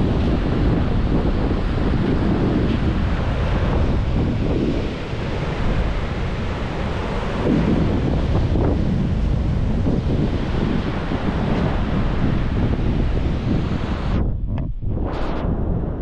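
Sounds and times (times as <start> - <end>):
ocean surf breaking: 0.0 - 14.2
wind buffeting microphone: 0.0 - 16.0.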